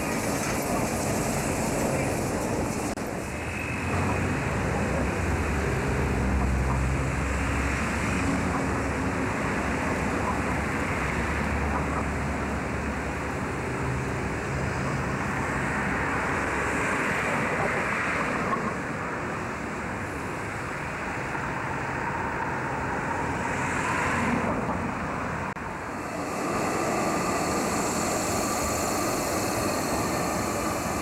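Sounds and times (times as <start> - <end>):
street traffic rumble: 0.0 - 31.0.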